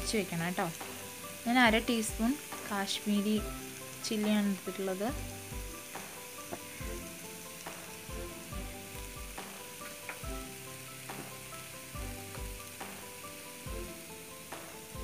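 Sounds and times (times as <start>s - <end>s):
onions sizzling in oil: 0.0s - 15.0s
soft background music: 0.0s - 15.0s.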